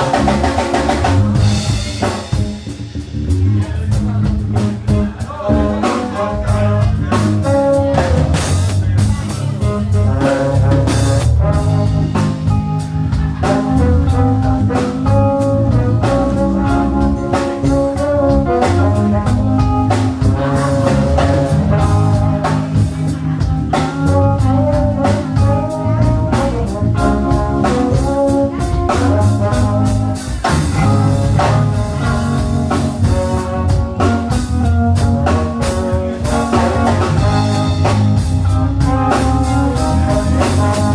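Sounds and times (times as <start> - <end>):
drum kit beat: 0.0 - 40.9
guitar: 0.0 - 40.9
horns: 0.0 - 40.9.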